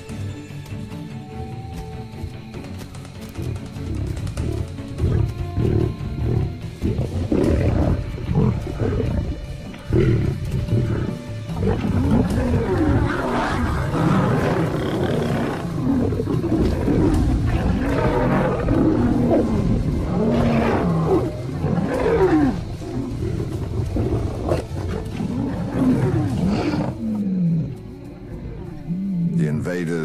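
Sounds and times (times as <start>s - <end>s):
lions snarling and roaring: 3.2s - 29.4s.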